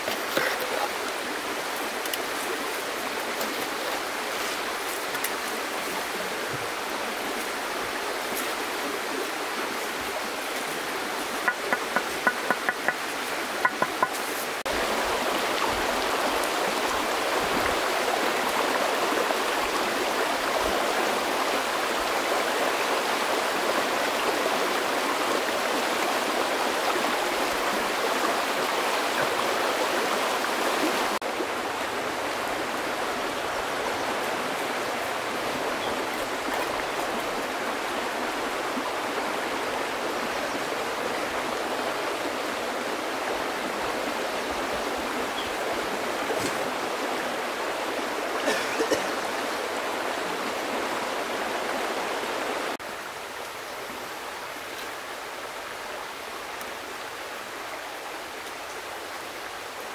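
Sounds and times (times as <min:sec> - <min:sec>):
river running over stones: 0:00.0 - 0:59.9.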